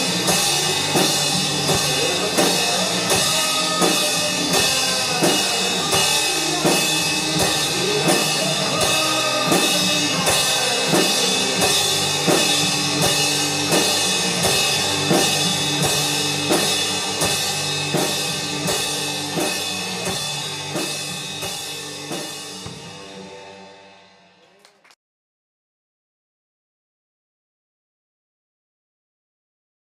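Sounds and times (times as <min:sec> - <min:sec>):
drum kit playing: 0:00.0 - 0:24.4
rock backing track: 0:00.0 - 0:24.4.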